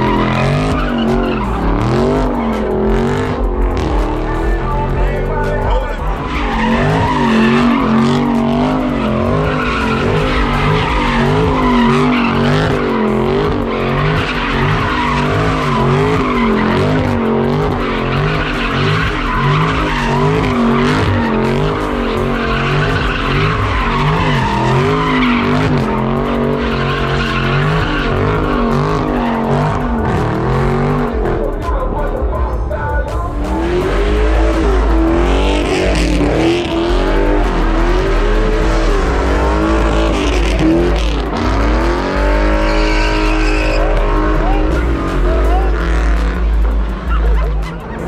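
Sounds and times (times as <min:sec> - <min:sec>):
car engine revving hard: 0:00.0 - 0:48.0
tires squealing and skidding: 0:00.0 - 0:48.0.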